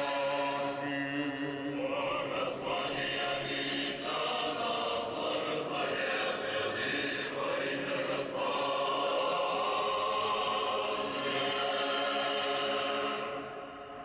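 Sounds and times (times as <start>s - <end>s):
choir singing liturgical chant: 0.0s - 14.0s.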